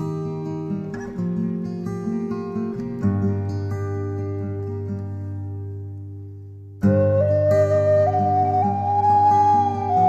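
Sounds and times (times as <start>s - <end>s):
acoustic guitar chord ringing: 0.0s - 10.0s.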